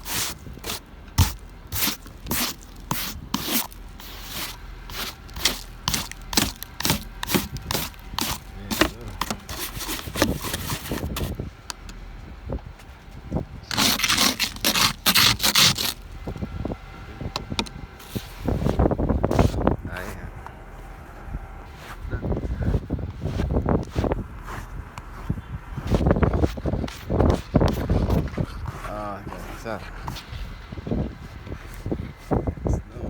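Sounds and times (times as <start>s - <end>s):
snow scraped off car: 0.0s - 11.4s, 13.7s - 16.1s, 18.0s - 20.2s, 21.7s - 32.4s.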